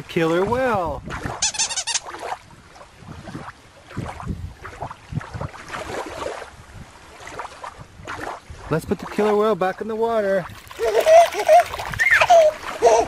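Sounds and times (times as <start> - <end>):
wind buffeting microphone: 0.0 - 1.5, 2.2 - 13.0
water lapping: 0.0 - 13.0.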